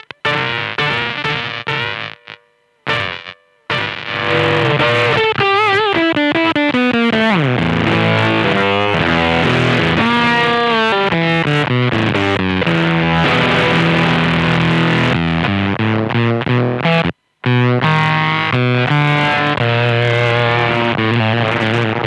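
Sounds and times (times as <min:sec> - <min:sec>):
fuzz distorted electric guitar: 0:00.0 - 0:22.0.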